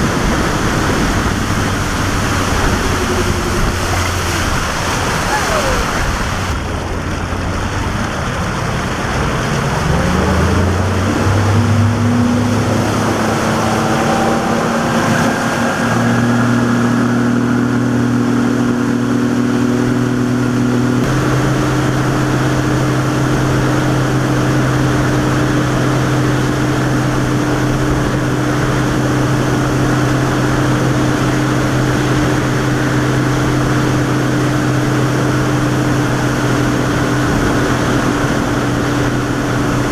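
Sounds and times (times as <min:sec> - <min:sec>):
boat engine speeding up: 0:00.0 - 0:39.9
water rushing: 0:00.0 - 0:39.9
wind rushing: 0:00.0 - 0:39.9.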